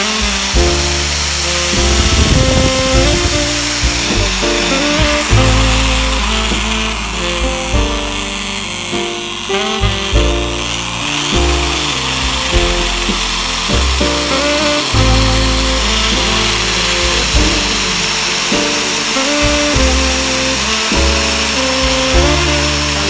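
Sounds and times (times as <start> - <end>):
background music: 0.0 - 23.0
electric power tool running: 0.0 - 23.0.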